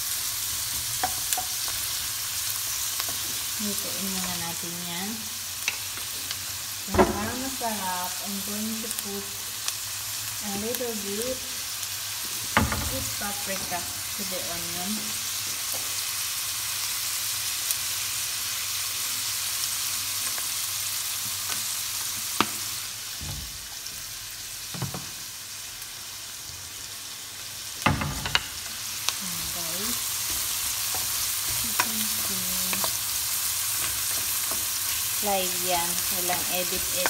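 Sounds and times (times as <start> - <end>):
onion and garlic sizzling in oil: 0.0 - 37.0.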